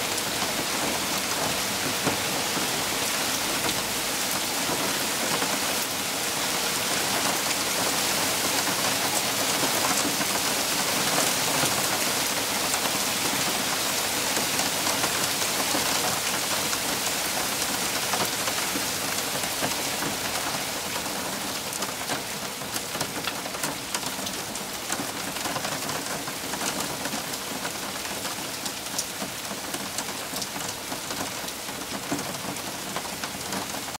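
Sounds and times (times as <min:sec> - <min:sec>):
hail falling on leaves: 0:00.0 - 0:34.0.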